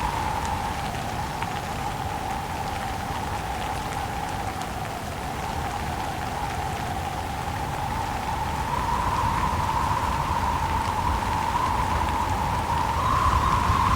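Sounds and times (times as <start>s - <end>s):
steady rain: 0.0s - 13.9s
whistling wind: 0.0s - 13.9s.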